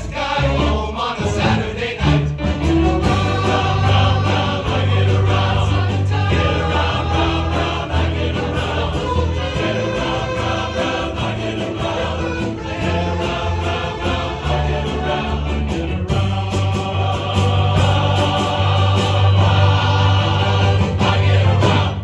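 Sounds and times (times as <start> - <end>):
chorus singing pop song: 0.0 - 22.0
instrumental accompaniment: 0.0 - 22.0.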